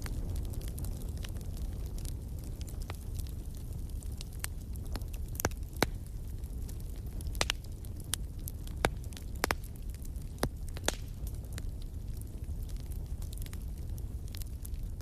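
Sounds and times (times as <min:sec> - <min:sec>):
low rumble of burning logs: 0:00.0 - 0:15.0
wood fire pops and snaps: 0:00.0 - 0:15.0.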